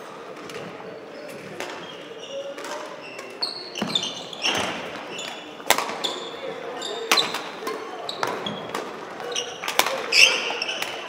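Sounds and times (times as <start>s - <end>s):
shoes squeaking on floor: 0.6s - 11.0s.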